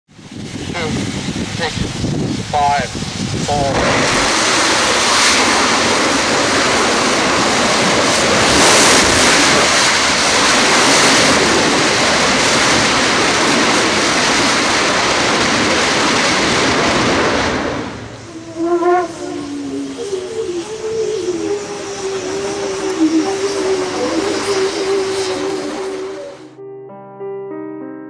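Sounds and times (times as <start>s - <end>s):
rocket engine exhaust roar: 0.1s - 26.5s.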